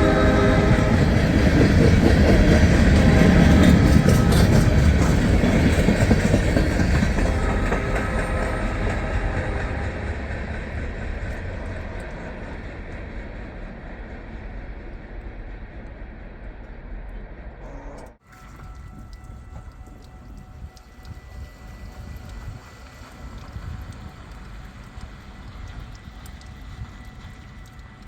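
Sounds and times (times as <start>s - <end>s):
train cars clickety-clack: 0.0s - 17.5s, 19.4s - 28.0s.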